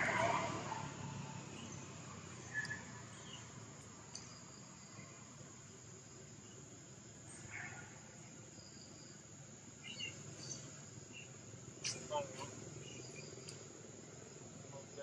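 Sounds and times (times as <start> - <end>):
high drone of insects: 0.0 - 15.0.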